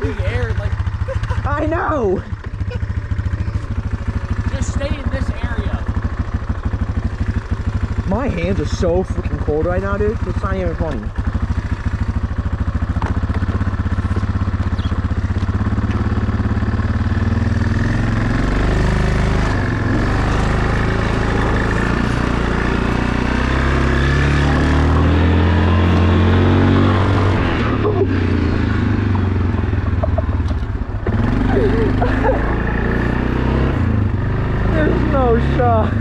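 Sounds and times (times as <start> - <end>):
small vehicle engine revving: 0.0 - 36.0.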